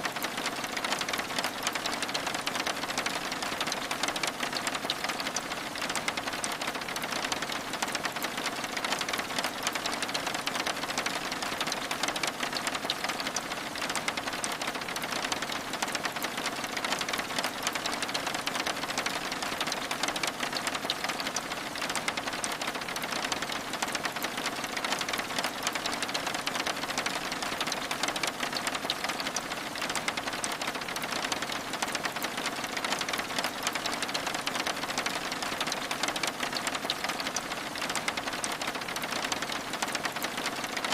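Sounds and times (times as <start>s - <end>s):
rain pattering on window glass: 0.0s - 40.9s.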